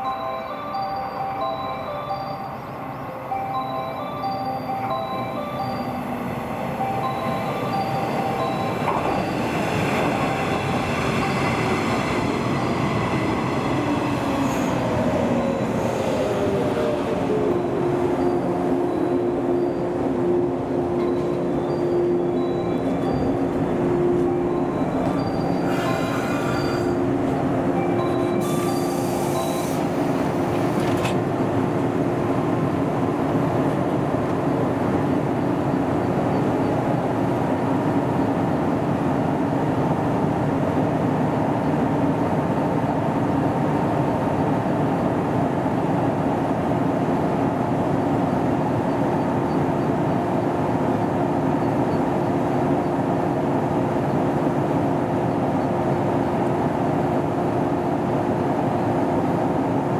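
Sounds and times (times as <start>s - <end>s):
electric train equipment humming: 0.0s - 59.9s.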